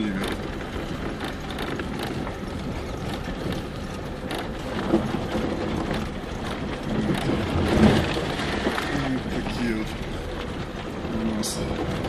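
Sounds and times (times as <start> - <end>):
car engine and road rumble: 0.0 - 12.0
knocks and rattles: 0.0 - 12.0.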